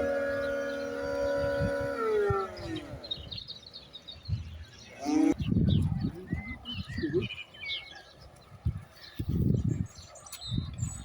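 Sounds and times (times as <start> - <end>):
small birds chirping: 0.0 - 11.0
wind buffeting microphone: 0.0 - 11.0.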